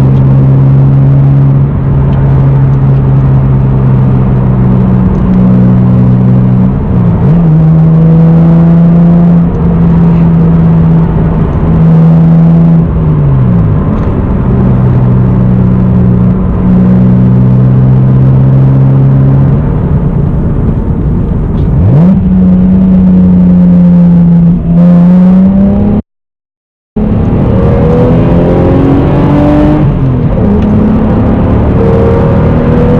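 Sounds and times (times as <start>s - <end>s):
car engine cruising and shifting gears: 0.0s - 26.0s, 27.0s - 32.9s.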